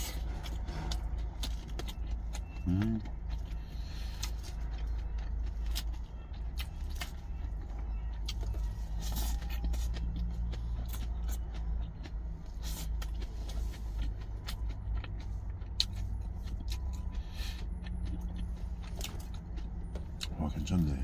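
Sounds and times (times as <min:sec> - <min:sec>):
chewing lettuce: 0:00.0 - 0:21.0
truck engine idling: 0:00.0 - 0:21.0.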